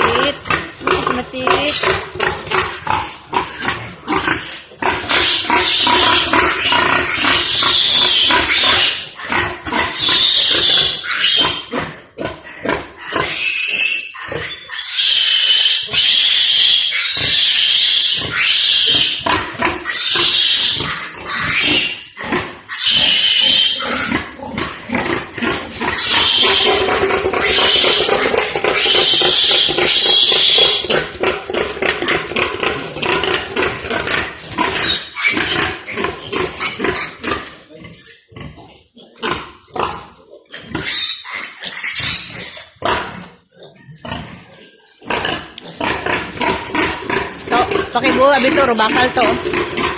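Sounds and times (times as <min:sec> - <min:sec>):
pigs squealing: 0:00.0 - 0:49.9.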